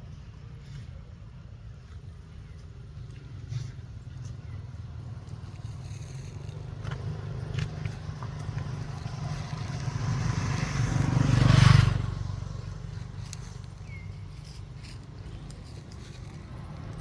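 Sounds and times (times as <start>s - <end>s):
motor vehicle passing by: 2.1s - 17.0s.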